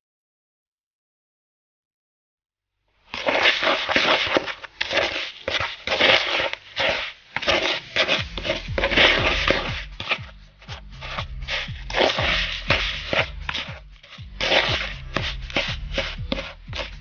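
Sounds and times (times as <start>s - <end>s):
metal utensil scraping a bowl: 3.1s - 17.0s.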